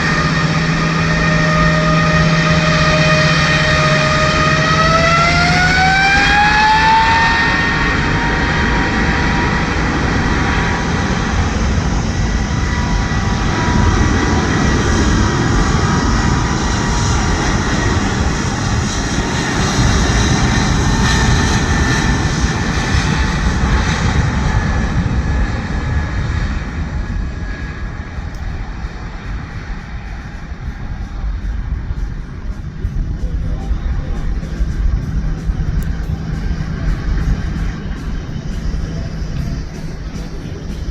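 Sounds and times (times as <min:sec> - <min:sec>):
jet engine whine: 0:00.0 - 0:40.9
jet engines spooling up: 0:00.0 - 0:40.9
loud jet rumble: 0:00.0 - 0:40.9.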